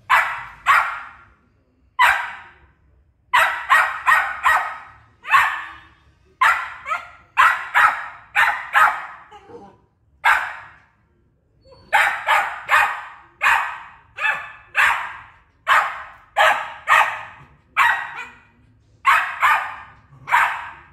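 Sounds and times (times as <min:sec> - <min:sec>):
dog barking: 0:00.0 - 0:01.3, 0:02.0 - 0:02.6, 0:03.3 - 0:09.5, 0:10.2 - 0:10.8, 0:11.9 - 0:20.9.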